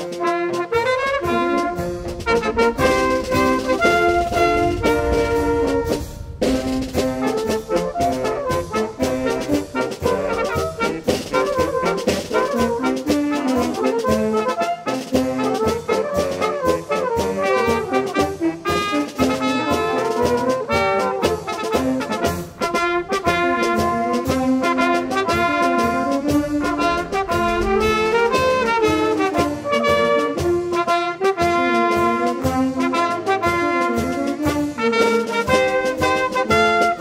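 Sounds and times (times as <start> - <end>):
brass band playing a tune: 0.0 - 37.0
drums keeping a steady beat: 0.0 - 37.0.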